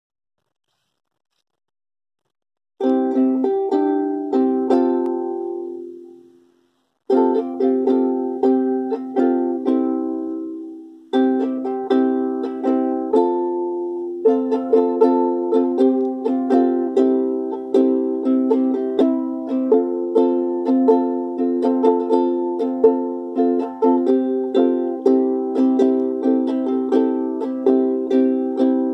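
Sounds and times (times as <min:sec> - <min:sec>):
ukulele strumming: 0:02.8 - 0:06.5, 0:07.1 - 0:28.9.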